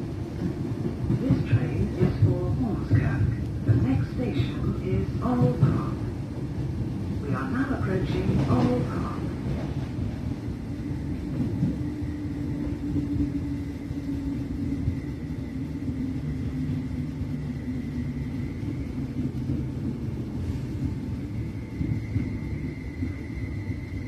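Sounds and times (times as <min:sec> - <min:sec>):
train interior rumble: 0:00.0 - 0:24.0.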